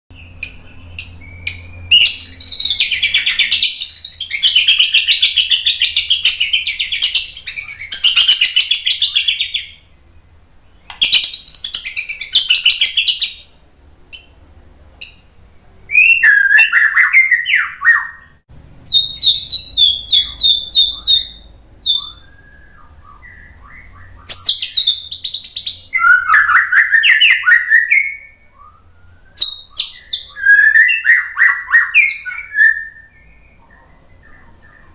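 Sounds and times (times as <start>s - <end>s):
bird singing: 0.1s - 34.9s.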